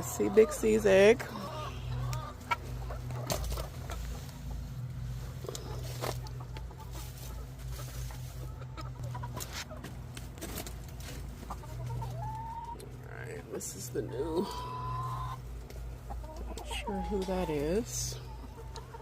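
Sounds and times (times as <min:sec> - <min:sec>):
hens clucking: 0:00.0 - 0:19.0
steady low hum: 0:00.0 - 0:19.0.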